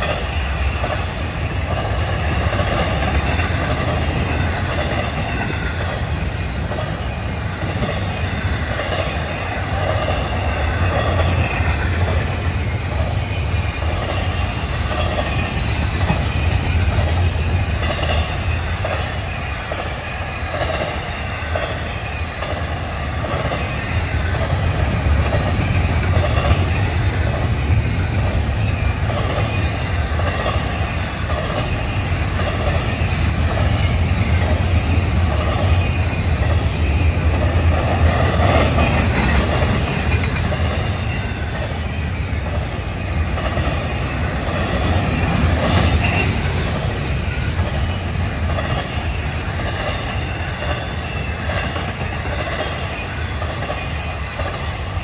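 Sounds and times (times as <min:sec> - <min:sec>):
freight train wheels rumbling: 0:00.0 - 0:55.0
repeating rail clack: 0:00.0 - 0:55.0.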